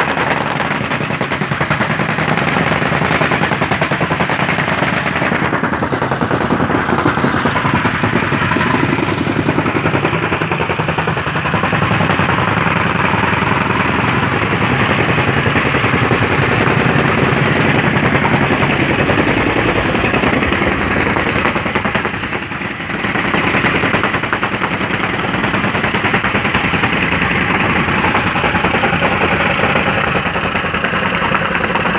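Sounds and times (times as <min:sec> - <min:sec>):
rammer compactor pounding gravel: 0:00.0 - 0:31.9.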